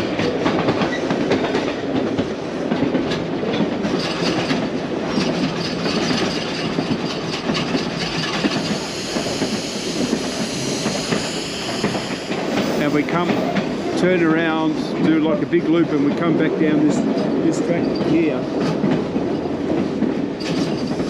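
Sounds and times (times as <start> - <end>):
rumble of train coach: 0.0 - 21.0
train wheels clicking over rail joints: 0.0 - 21.0.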